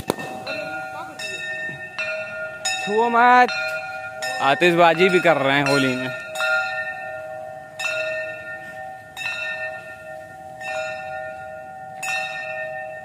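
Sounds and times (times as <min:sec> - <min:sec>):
metal bell ringing: 0:00.2 - 0:13.0.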